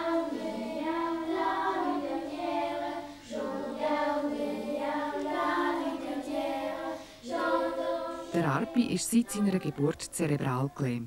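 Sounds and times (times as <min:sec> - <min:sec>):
children's choir singing: 0:00.0 - 0:11.0.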